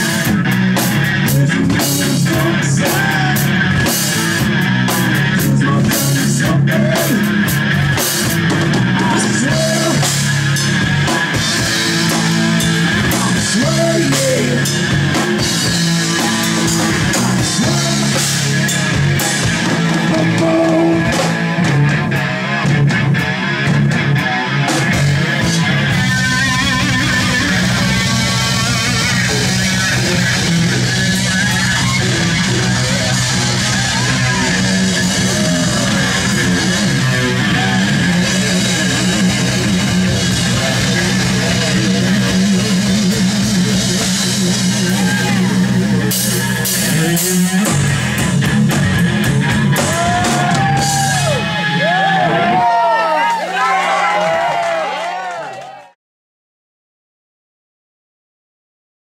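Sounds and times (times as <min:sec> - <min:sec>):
electric guitar: 0:00.0 - 0:55.8
rock band playing live: 0:00.0 - 0:55.8.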